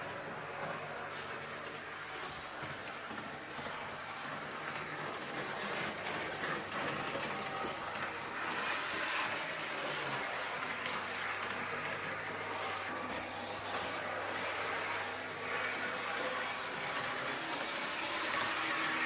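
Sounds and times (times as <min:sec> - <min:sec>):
electric locomotive motor noise: 0:00.0 - 0:19.0.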